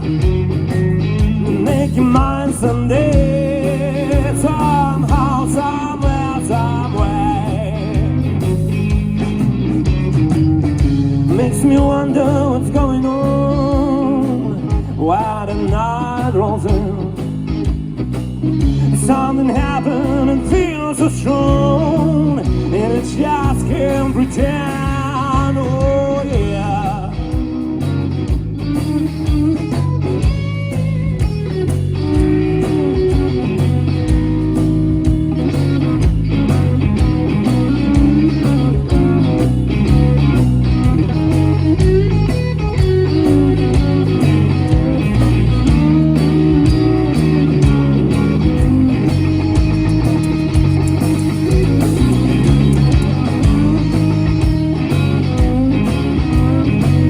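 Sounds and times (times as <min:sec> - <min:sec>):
blues-rock band playing: 0:00.0 - 0:57.0
electric guitar: 0:00.0 - 0:57.0.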